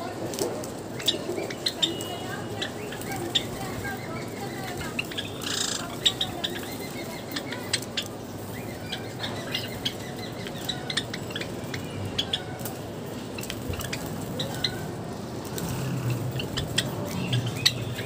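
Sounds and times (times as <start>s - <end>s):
low background noise: 0.0s - 18.0s
sparrows chirping: 0.0s - 18.0s.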